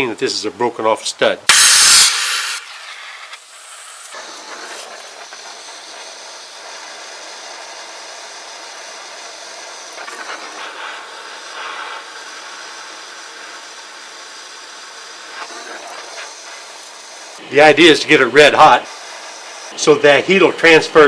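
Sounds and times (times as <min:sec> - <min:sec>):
gas torch flame hissing: 0:01.5 - 0:21.0.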